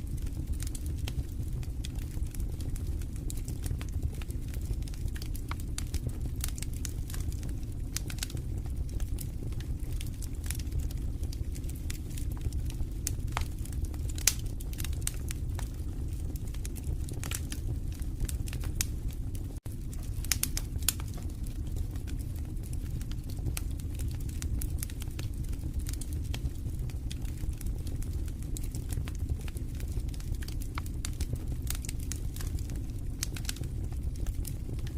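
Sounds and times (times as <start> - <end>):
fireplace fire crackling: 0.0 - 34.9
rumble of flames: 0.0 - 34.9.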